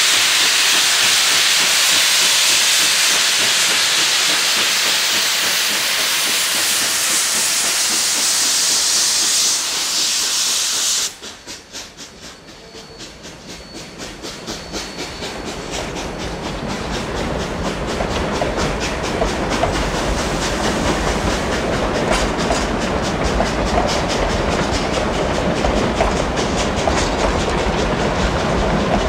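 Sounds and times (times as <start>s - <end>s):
loud hiss of steam: 0.0s - 29.0s
steam locomotive exhaust chuffs: 0.0s - 29.0s.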